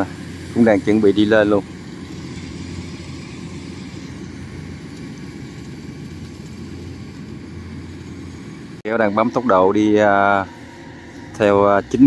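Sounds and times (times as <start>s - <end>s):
combine harvester engine drone: 0.0s - 12.0s
noisy mechanical whir: 0.0s - 12.0s.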